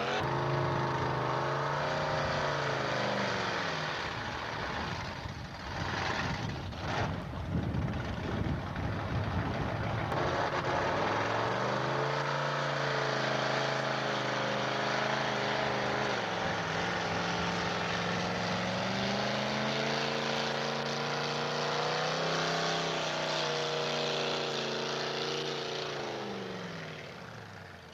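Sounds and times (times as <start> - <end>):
truck engine running under load: 0.0 - 27.9.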